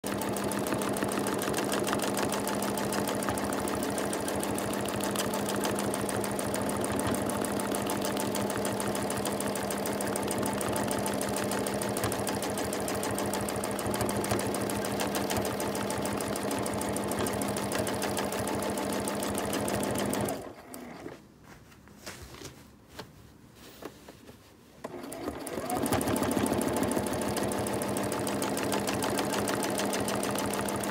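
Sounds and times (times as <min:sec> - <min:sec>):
sewing machine running: 0:00.0 - 0:21.0, 0:24.8 - 0:30.9.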